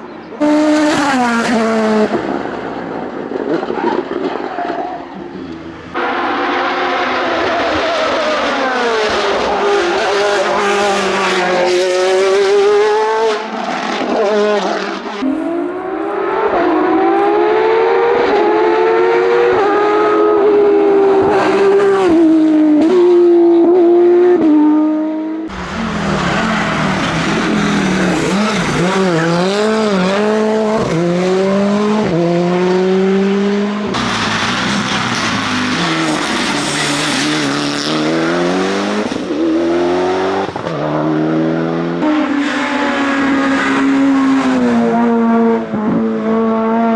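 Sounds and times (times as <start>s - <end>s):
racing car engines at full throttle: 0.0s - 46.9s.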